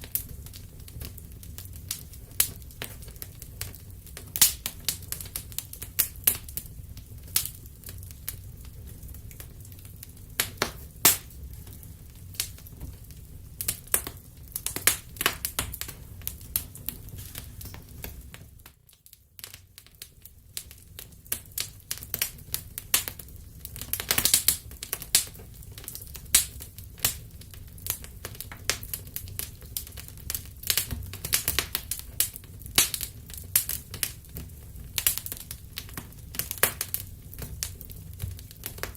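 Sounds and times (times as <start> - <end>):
low rumble of flames: 0.0 - 38.9
wood fire pops and snaps: 0.0 - 38.9.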